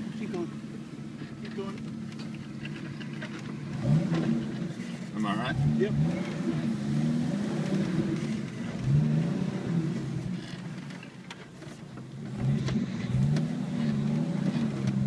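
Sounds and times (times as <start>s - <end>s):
vehicle engine revving: 0.0s - 11.0s, 12.0s - 15.0s.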